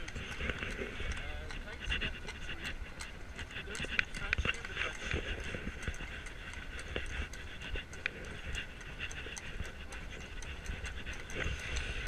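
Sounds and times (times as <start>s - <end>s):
carriage wheels rumbling on cobblestones: 0.0s - 12.0s
horse hooves clopping: 0.0s - 12.0s.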